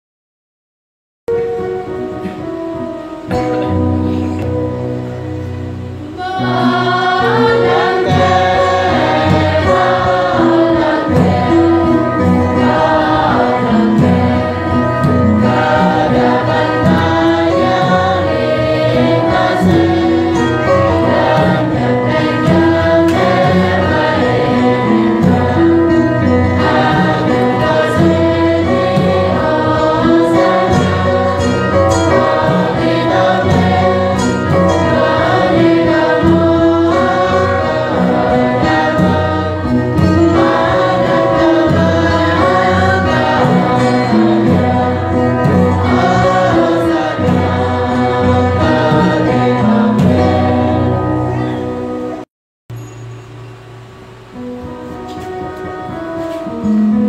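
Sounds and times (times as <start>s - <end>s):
instrumental backing with bass: 1.3s - 57.0s
choir singing a hymn: 1.4s - 52.2s.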